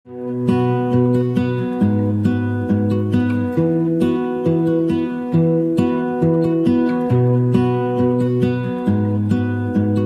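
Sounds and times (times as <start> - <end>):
acoustic guitar strumming: 0.1 - 10.0.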